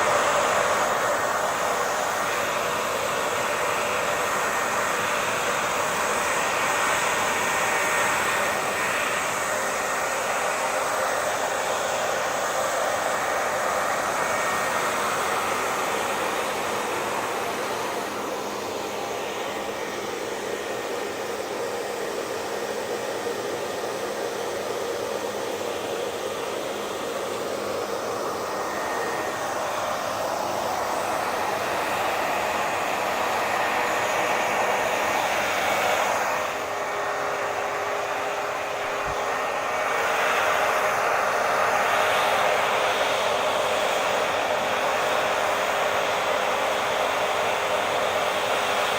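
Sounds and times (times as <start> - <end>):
hair dryer running: 0.0 - 48.9.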